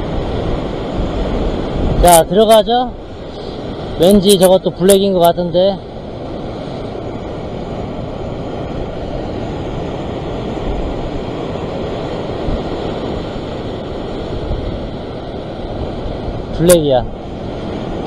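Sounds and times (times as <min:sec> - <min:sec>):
sea surf washing against rocks: 0:00.0 - 0:18.0
wind buffeting microphone: 0:00.0 - 0:18.0.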